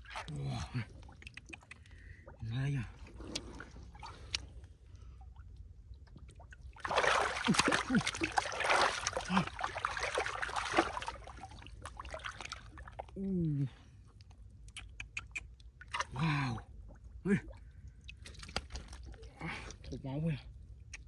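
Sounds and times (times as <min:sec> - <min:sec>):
water splashing and sloshing: 0:00.0 - 0:20.2.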